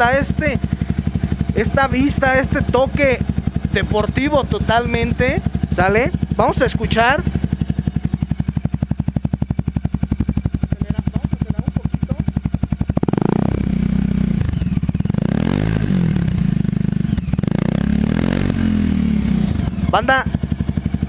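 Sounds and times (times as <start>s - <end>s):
motorcycle engine idling: 0.0s - 21.0s
motorcycle engine revving: 0.0s - 21.0s.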